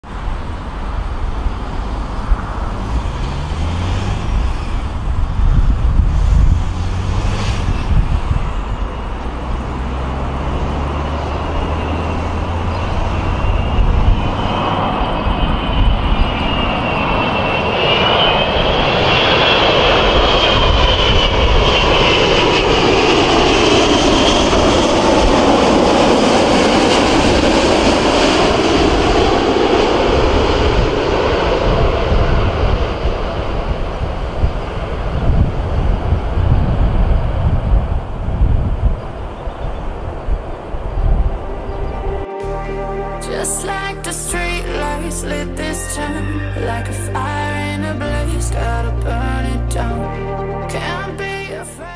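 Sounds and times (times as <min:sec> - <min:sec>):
jet airliner noise overhead: 0:00.0 - 0:51.9
high wavering fan whine: 0:00.1 - 0:51.9.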